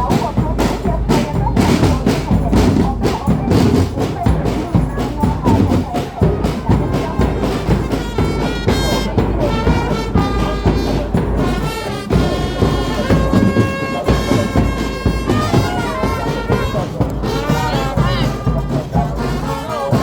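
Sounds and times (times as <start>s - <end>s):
brass horns holding long notes: 0.0s - 20.0s
steady drum beat: 0.0s - 20.0s.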